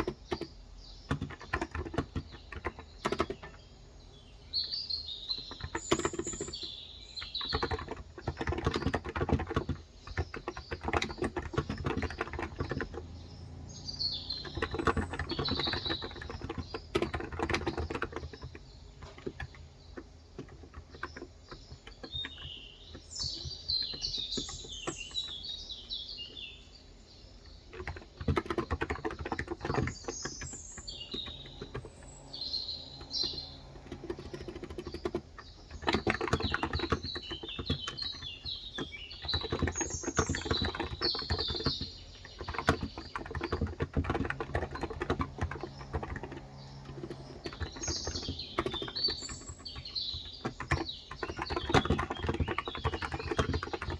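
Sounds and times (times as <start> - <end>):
keyboard typing: 0.0 - 3.8, 4.6 - 26.6, 27.4 - 53.9
small birds chirping: 0.0 - 53.9.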